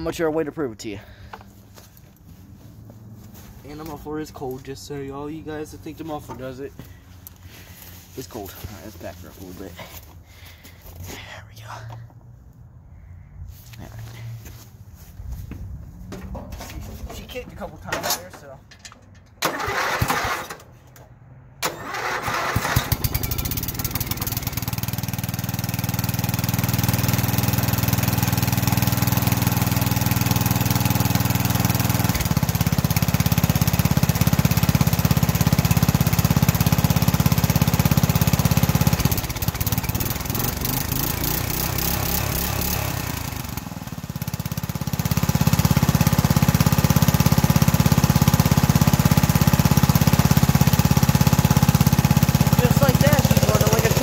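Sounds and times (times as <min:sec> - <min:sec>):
riding mower engine starting: 0:03.2 - 0:10.7, 0:16.1 - 0:54.0.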